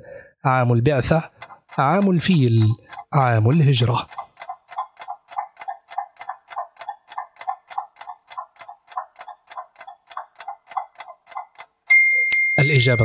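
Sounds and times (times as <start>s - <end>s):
clock ticking: 0.9s - 12.0s.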